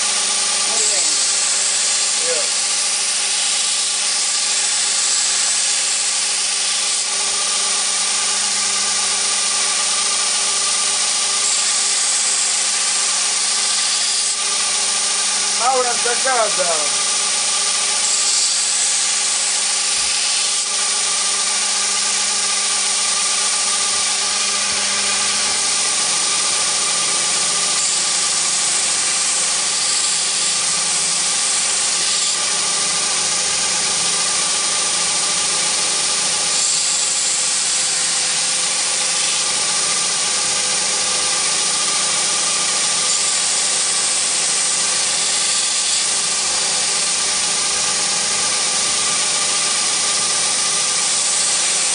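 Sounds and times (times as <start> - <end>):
belt grinder motor hum: 0.0 - 51.9
knife grinding on belt grinder: 0.0 - 51.9.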